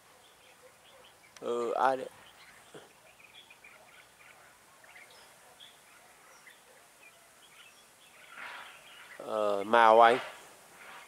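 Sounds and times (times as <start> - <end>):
faint bird chirps: 0.0 - 9.9.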